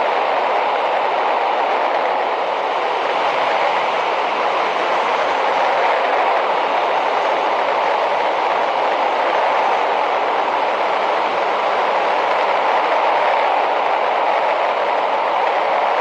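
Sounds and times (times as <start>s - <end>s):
rushing wind: 0.0s - 16.0s.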